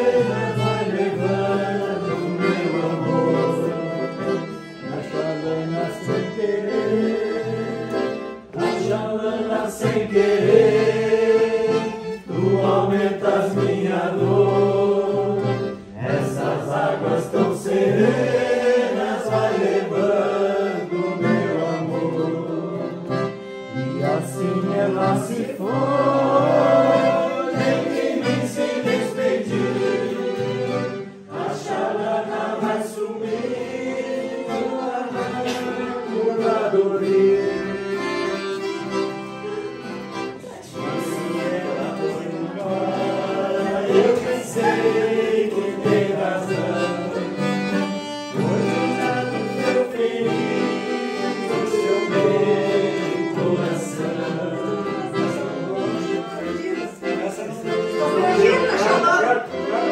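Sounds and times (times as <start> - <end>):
group singing in chorus: 0.0 - 39.5, 40.2 - 59.9
accordion: 0.0 - 59.9.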